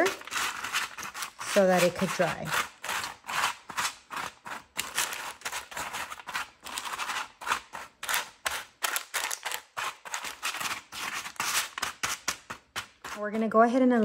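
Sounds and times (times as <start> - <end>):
crinkling scrapes on parchment paper: 0.0 - 14.0.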